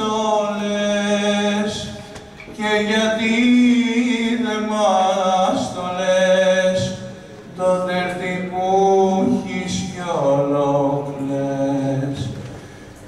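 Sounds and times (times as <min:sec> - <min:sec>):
man singing through a microphone: 0:00.0 - 0:12.6.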